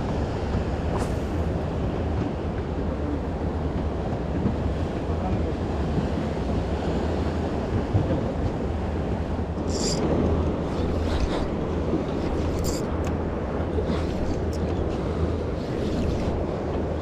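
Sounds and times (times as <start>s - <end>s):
water washing around boat: 0.0s - 17.0s.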